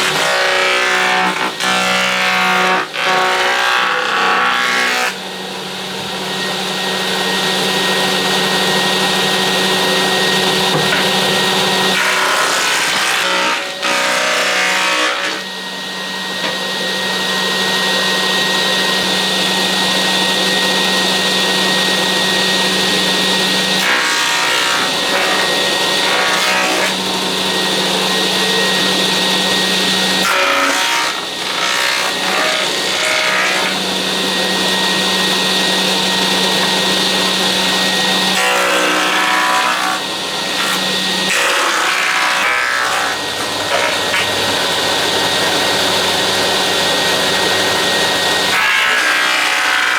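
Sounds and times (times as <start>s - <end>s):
power tool cutting wood: 0.0s - 49.9s.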